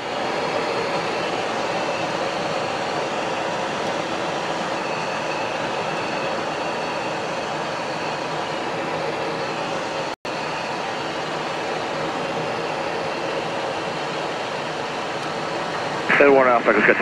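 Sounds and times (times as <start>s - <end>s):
jet cockpit airflow and engine: 0.0s - 17.0s.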